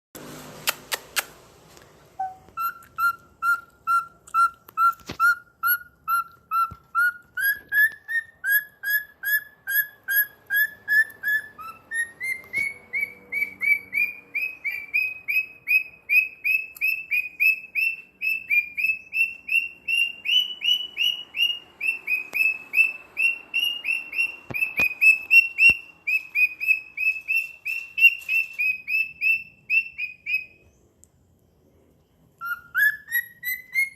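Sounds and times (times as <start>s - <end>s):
cockatiel whistling: 2.2s - 30.7s, 32.4s - 33.9s.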